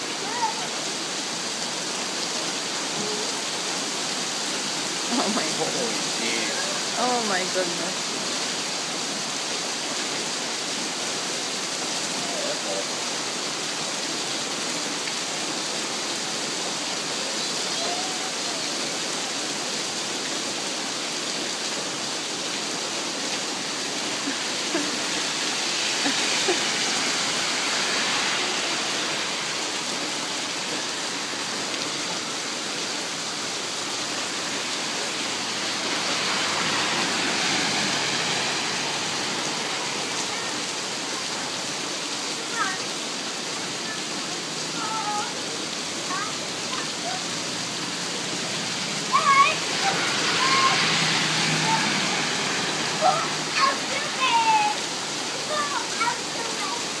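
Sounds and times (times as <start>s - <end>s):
car tyres hissing on wet street: 0.0s - 57.0s
steady rain falling: 0.0s - 57.0s.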